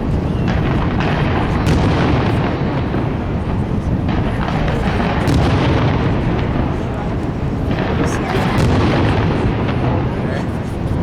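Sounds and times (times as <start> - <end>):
fireworks bangs and booms: 0.0 - 11.0
sharp firework cracks: 0.0 - 11.0.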